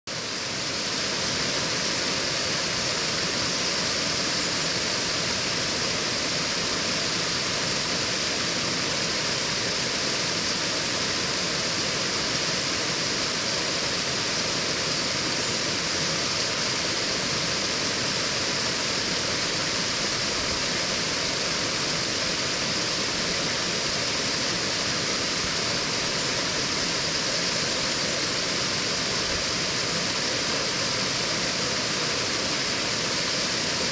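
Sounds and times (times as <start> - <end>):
water rushing over a weir: 0.1 - 33.9.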